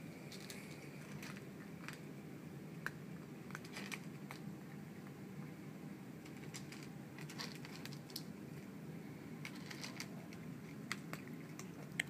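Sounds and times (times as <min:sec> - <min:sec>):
low steady hum: 0:00.0 - 0:12.0
cats crunching dry kibble: 0:00.2 - 0:05.2, 0:06.1 - 0:12.0.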